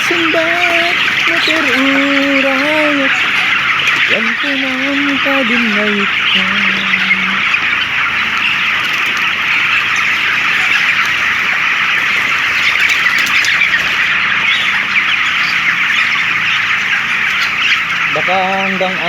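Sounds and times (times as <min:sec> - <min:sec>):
chickens peeping and chirping: 0:00.0 - 0:19.0.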